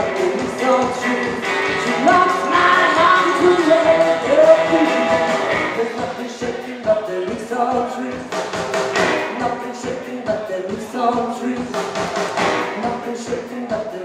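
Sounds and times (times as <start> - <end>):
rockabilly band playing: 0.0 - 13.5
drums keeping a steady beat: 0.0 - 14.0.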